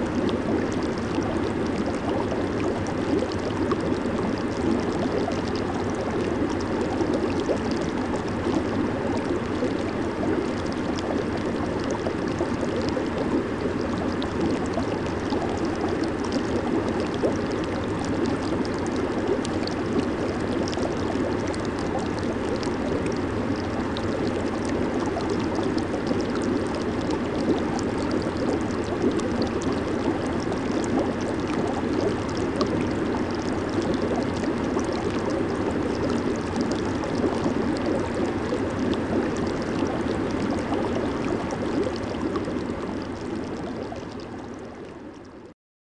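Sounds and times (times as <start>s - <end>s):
hot tub jets bubbling: 0.0s - 45.4s.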